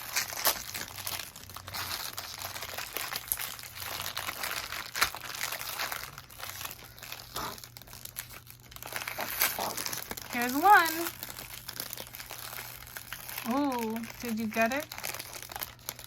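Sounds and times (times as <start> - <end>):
plastic wrapper crinkling and tearing: 0.0 - 16.0.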